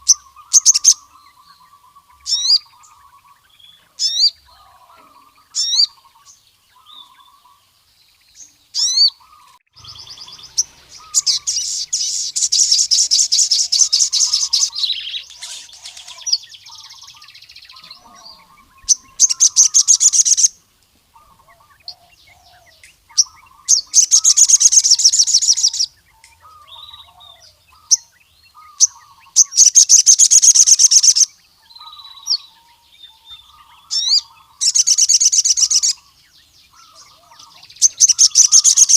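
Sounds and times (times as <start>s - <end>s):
bird high rapid trilling: 0.0s - 3.2s, 8.8s - 20.6s, 21.2s - 32.4s, 33.4s - 38.9s
sharp rising bird chirps: 0.0s - 20.6s, 21.2s - 38.9s
soft low bird twittering: 0.0s - 38.9s.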